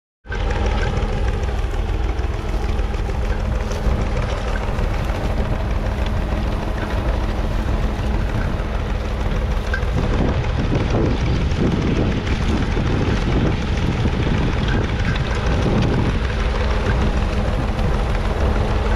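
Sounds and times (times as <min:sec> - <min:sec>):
tractor diesel engine running: 0:00.2 - 0:18.9.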